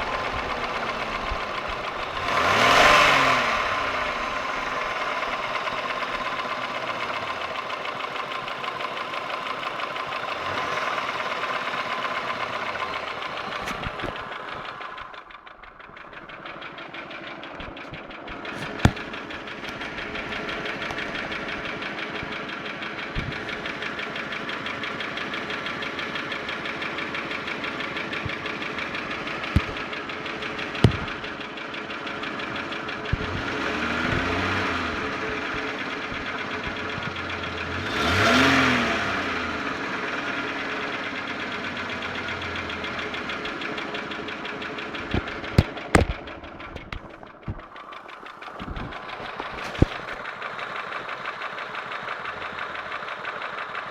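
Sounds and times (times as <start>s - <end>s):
car engine ticking: 0.0s - 53.9s.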